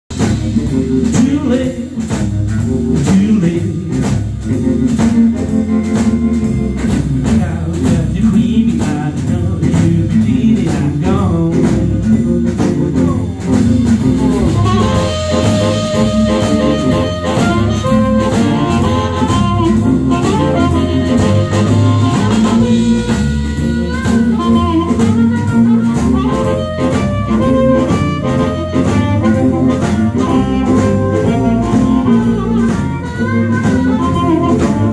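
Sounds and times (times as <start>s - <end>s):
electric bass: 0.0s - 34.9s
drum kit steady beat: 0.1s - 34.9s
electric guitar: 0.1s - 34.9s.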